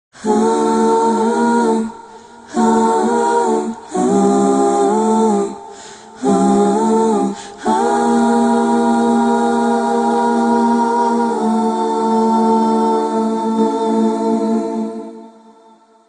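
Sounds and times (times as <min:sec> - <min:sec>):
voices singing a cappella: 0:00.1 - 0:16.0.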